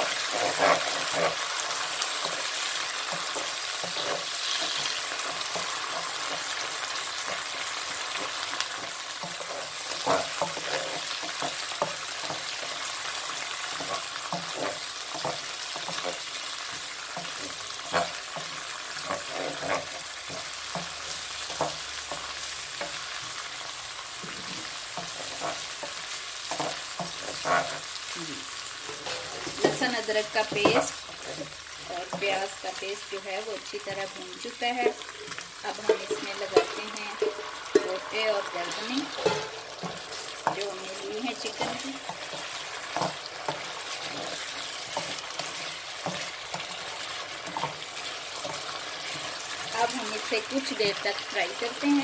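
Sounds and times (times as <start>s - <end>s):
wooden spatula scraping pan: 0.0s - 23.3s, 24.2s - 28.0s, 33.7s - 52.0s
paste sizzling in hot oil: 0.0s - 52.0s.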